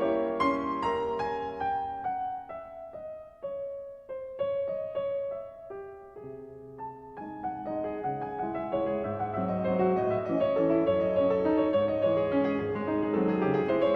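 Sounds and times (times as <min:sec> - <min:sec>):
gentle piano melody: 0:00.0 - 0:13.9.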